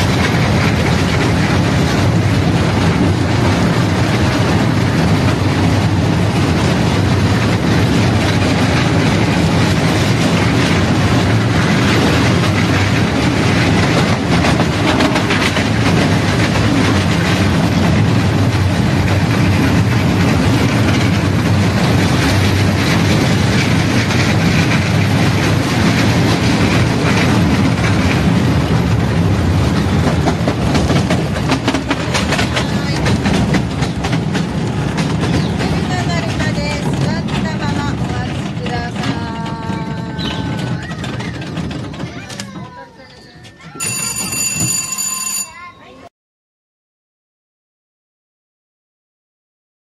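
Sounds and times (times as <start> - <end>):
train wheels rattling on rails: 0.0 - 46.0.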